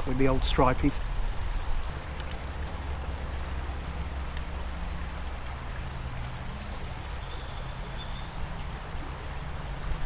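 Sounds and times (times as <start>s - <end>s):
fast-flowing river rushing: 0.0s - 10.0s.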